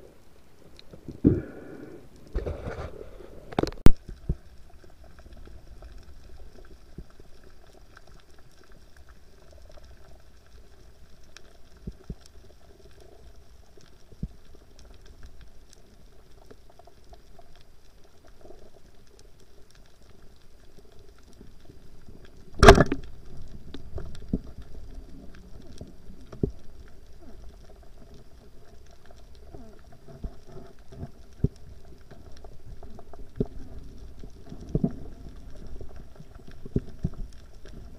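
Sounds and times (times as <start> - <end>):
faint underwater hum: 0.0 - 37.9
underwater clicks and crackles: 0.0 - 37.9.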